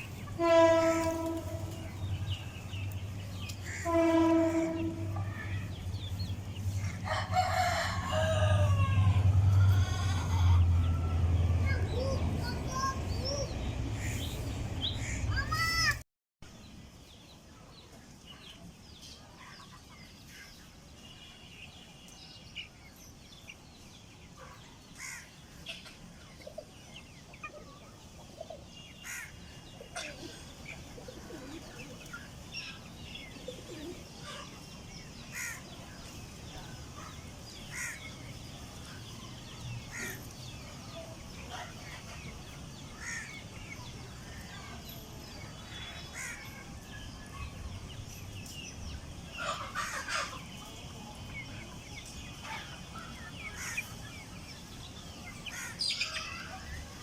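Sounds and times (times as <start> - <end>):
chicks peeping: 0.0 - 15.9, 22.4 - 57.0.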